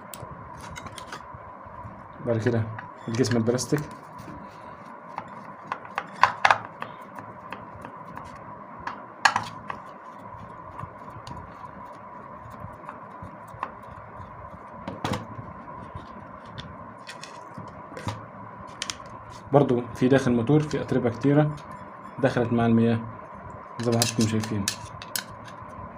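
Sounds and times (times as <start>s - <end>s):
faint high hum: 0.0s - 25.9s.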